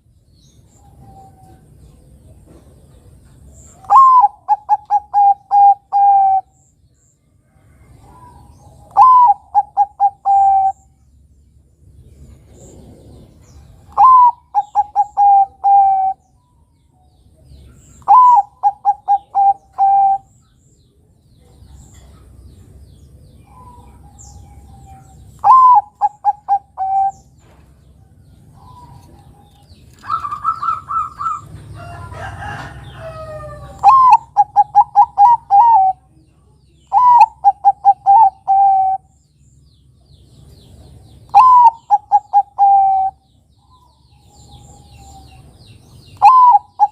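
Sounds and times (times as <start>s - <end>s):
dove cooing song: 0.6s - 6.6s, 7.5s - 11.0s, 12.3s - 16.6s, 17.4s - 20.5s, 23.3s - 36.2s, 36.8s - 39.2s, 40.7s - 46.9s
rough bird calls: 2.4s - 6.8s, 7.9s - 10.9s, 12.2s - 16.6s, 17.5s - 20.6s, 21.7s - 36.0s, 36.8s - 39.2s, 40.2s - 46.9s.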